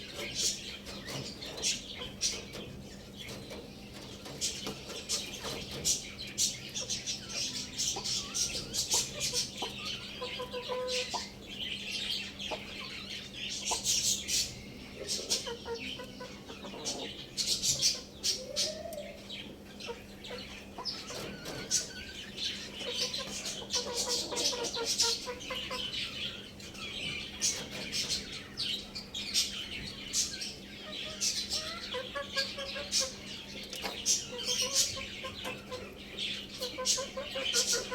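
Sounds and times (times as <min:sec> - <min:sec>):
chickens clucking: 0:00.0 - 0:37.9
small birds chirping: 0:00.0 - 0:37.9.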